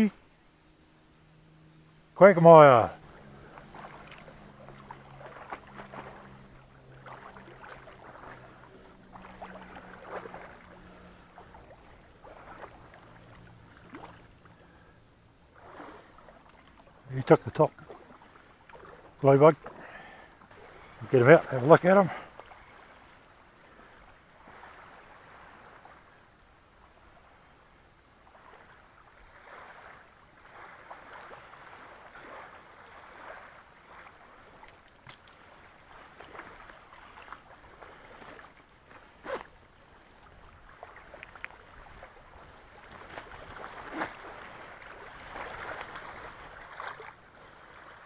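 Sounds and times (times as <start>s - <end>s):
waves lapping on stony shore: 2.5s - 48.0s.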